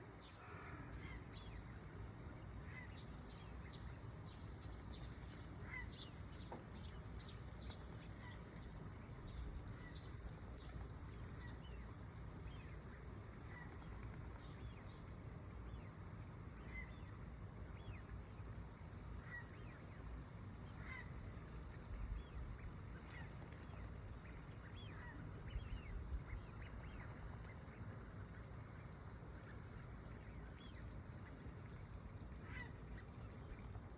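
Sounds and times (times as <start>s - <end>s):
birds calling and chirping: 0.0s - 33.9s
steady low rumble: 0.0s - 33.9s.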